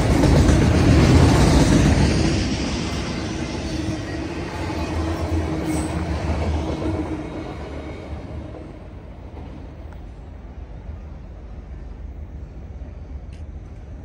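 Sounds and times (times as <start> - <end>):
freight train rolling on rails: 0.0 - 14.0.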